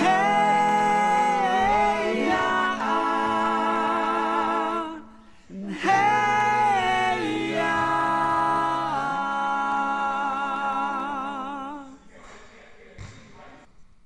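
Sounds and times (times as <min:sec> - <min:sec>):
slow vocal harmonies: 0:00.0 - 0:12.2.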